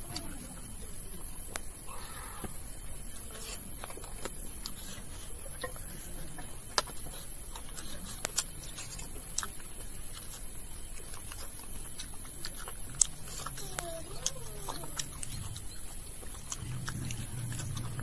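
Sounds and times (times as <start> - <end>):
chewing and mouth sounds: 0.0 - 18.0.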